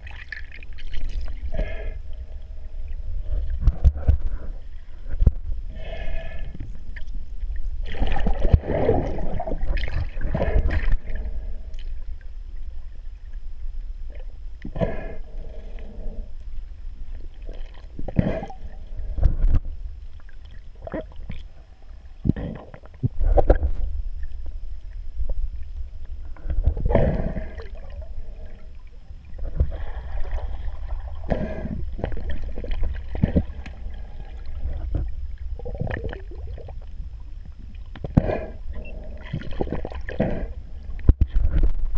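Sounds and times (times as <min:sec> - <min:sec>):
underwater water rumble: 0:00.0 - 0:41.9.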